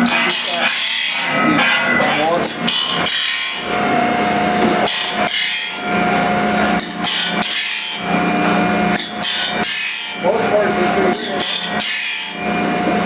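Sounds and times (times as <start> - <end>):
grinding stone rasping on saw blade: 0.0 - 13.0.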